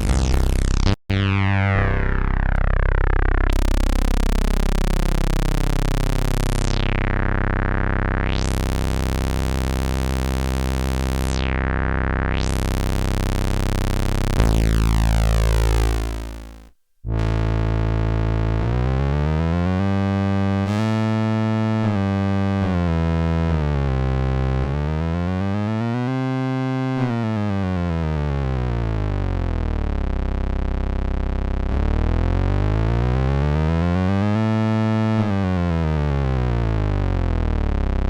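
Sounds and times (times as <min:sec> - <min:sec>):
synthesizer notes stepping in pitch: 0:00.0 - 0:30.2, 0:31.6 - 0:38.0
buzzy synthesizer note with filter sweeps: 0:00.0 - 0:38.0.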